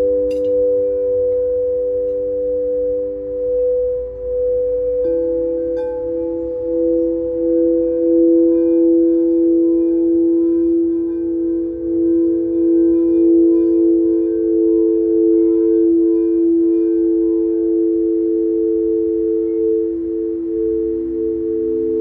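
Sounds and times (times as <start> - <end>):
crystal singing bowls ringing: 0.0 - 22.0.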